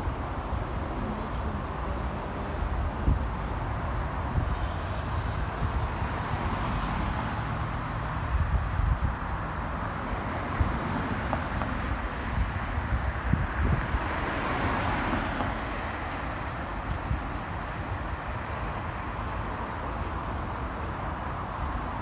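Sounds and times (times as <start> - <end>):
vehicle rumble: 0.0 - 22.0.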